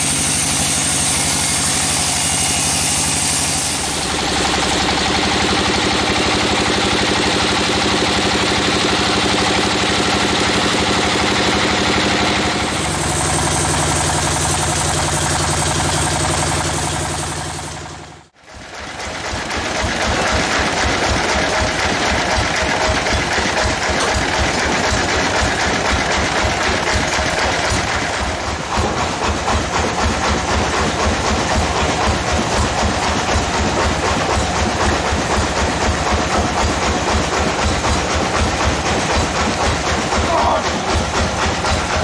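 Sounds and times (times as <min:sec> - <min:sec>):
bandsaw running: 0:00.0 - 0:42.0.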